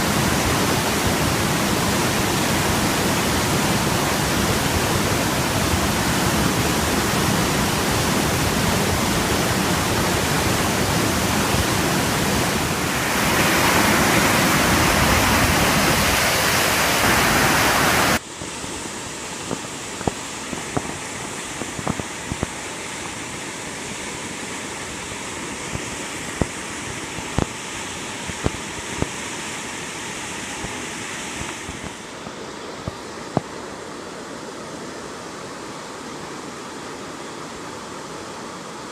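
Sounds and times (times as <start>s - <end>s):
floodwater rushing in creek: 0.0s - 38.9s.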